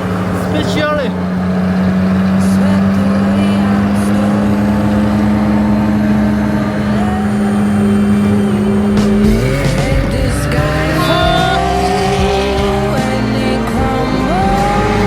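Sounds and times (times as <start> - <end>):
sports car engine running: 0.0 - 15.0.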